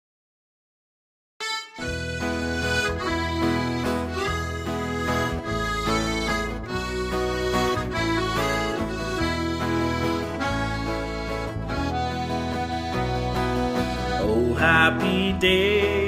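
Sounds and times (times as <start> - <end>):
reedy accordion-like hymn chords: 1.4 - 16.0.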